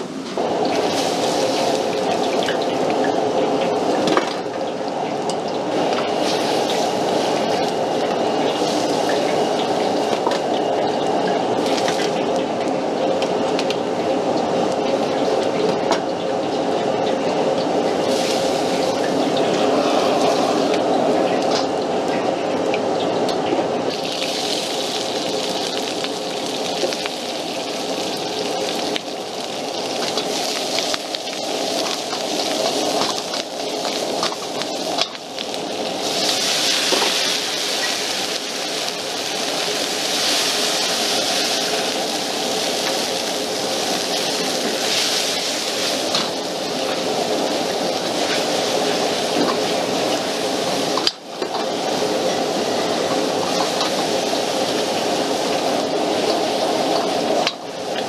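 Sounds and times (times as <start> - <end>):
gas burner roaring: 0.0 - 58.0
vegetables sizzling in a wok: 0.3 - 4.5, 5.6 - 12.4, 17.7 - 21.4, 23.8 - 58.0.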